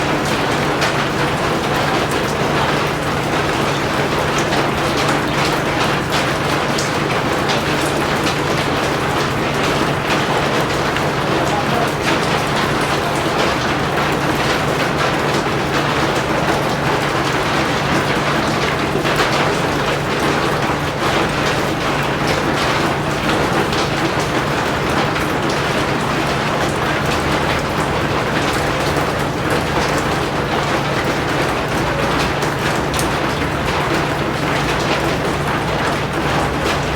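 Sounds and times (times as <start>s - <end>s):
heavy rain on a surface: 0.0s - 36.9s.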